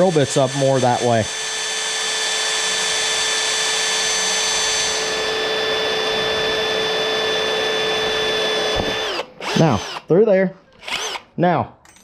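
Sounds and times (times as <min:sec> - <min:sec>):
electric drill motor whine: 0:00.0 - 0:10.1, 0:10.8 - 0:11.2
drill bit grinding metal: 0:00.0 - 0:10.2, 0:10.8 - 0:11.2.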